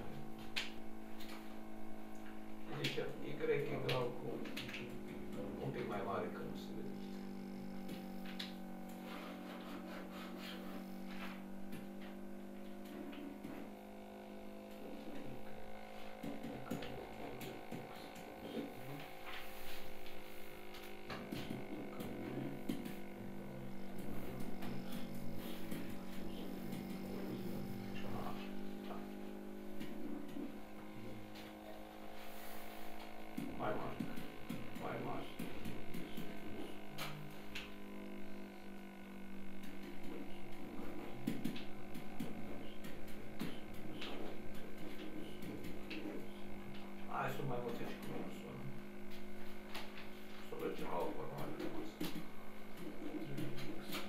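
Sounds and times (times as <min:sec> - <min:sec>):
faint muttering: 0:00.0 - 0:54.0
steady electrical hum: 0:00.0 - 0:54.0.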